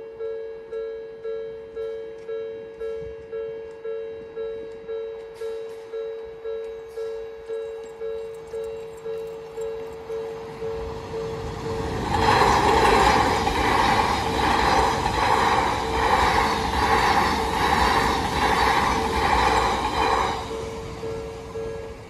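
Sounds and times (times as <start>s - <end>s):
electric train running past: 3.8s - 22.0s.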